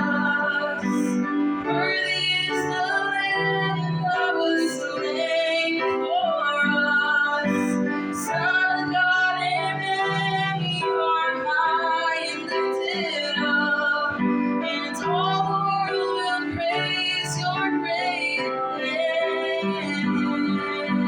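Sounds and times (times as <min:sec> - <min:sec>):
musical accompaniment: 0:00.0 - 0:21.0
woman singing: 0:00.0 - 0:21.0.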